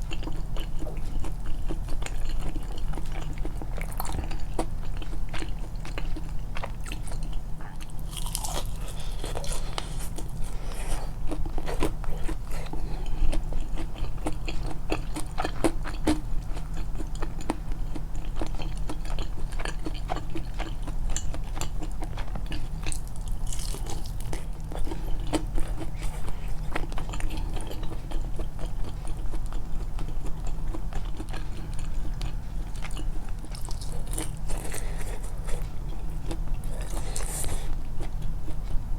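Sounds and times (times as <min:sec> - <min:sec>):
chewing and biting food: 0:00.0 - 0:38.8
steady low hum: 0:00.0 - 0:38.9.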